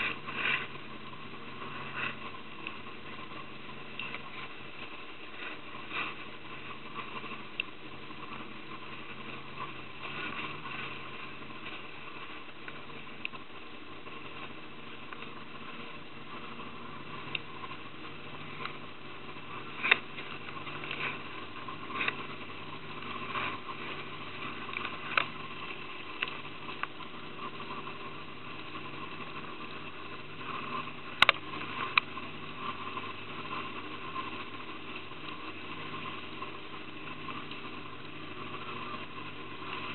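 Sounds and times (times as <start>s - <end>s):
boat motor running: 0.0s - 39.9s.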